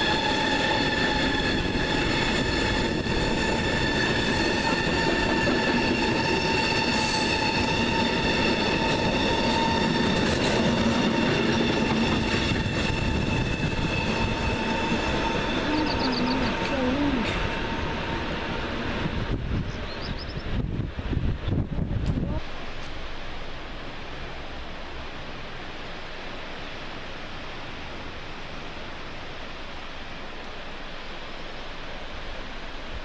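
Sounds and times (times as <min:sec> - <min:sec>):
high-pitched train whine: 0:00.0 - 0:33.0
train wheels rumbling on track: 0:00.0 - 0:33.0.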